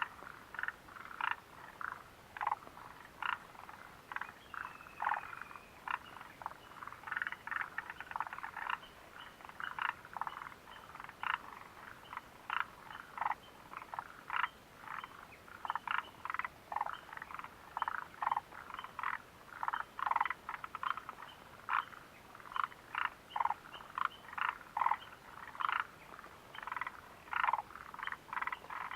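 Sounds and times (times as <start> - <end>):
frogs calling: 0.0 - 28.9.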